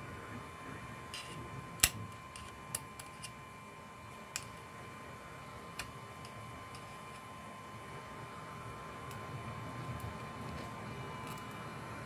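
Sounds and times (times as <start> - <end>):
faint high hum: 0.0 - 12.0.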